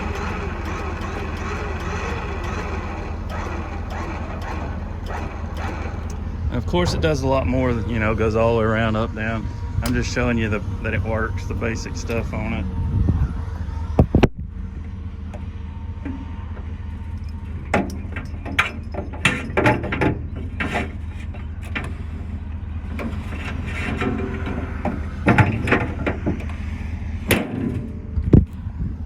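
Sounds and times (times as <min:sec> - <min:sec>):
knocks and clanks: 0:00.0 - 0:12.5, 0:13.9 - 0:22.1, 0:22.9 - 0:28.6
truck engine idling: 0:00.0 - 0:29.0.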